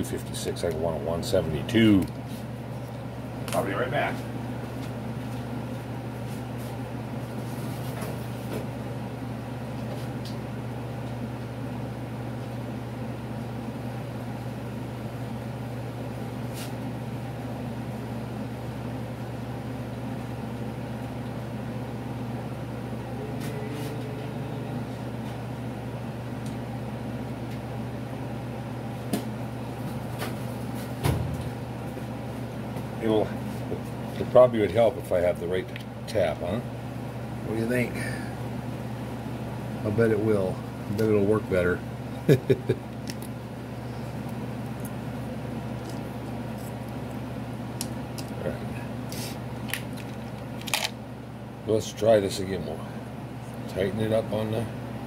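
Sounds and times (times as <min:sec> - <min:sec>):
box fan humming: 0:00.0 - 0:55.0.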